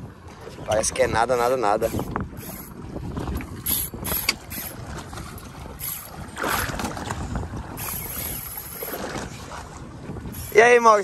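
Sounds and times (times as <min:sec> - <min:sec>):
sea noise: 0:00.0 - 0:11.0
wind: 0:00.0 - 0:11.0.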